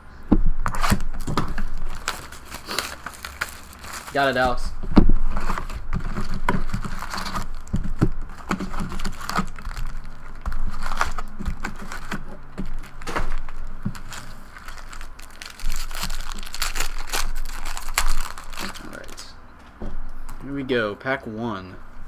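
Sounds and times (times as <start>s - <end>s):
plastic wrapping crinkling and tearing: 0.6s - 19.4s.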